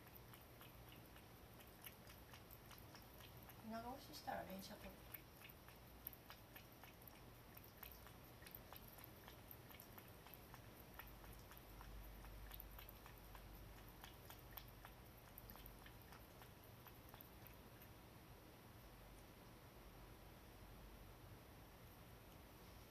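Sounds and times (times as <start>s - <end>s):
cat lapping water: 0.0s - 19.5s.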